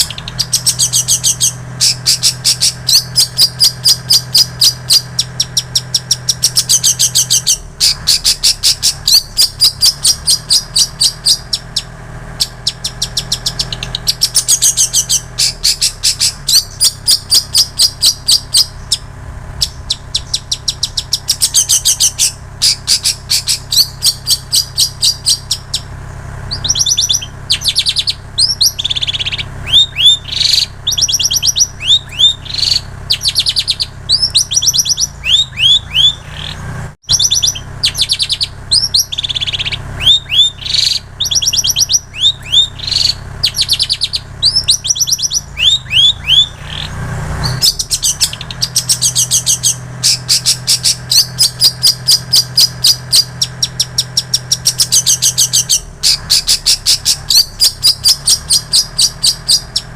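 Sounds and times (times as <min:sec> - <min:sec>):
shrike singing trills and chirps: 0:00.0 - 0:59.9.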